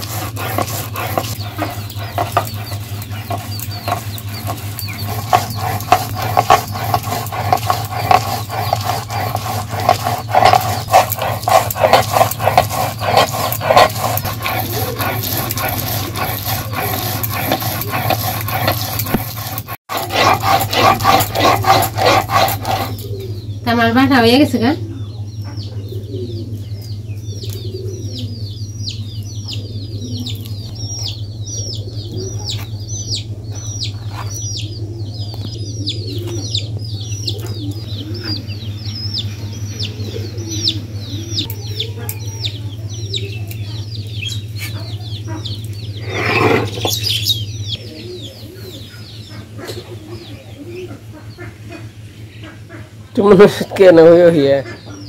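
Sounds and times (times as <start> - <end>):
chicks peeping: 0.0 - 19.5, 25.0 - 55.0
steady low hum: 0.0 - 55.0.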